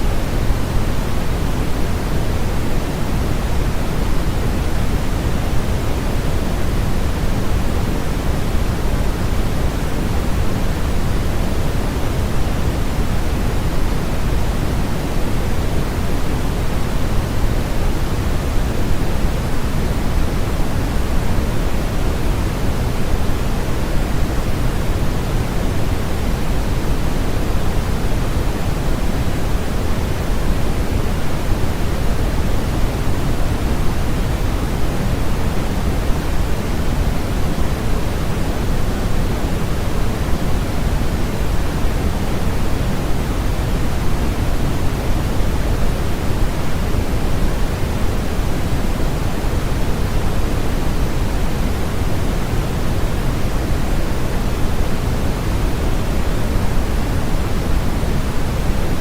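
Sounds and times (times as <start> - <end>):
steady pink noise: 0.0 - 59.0.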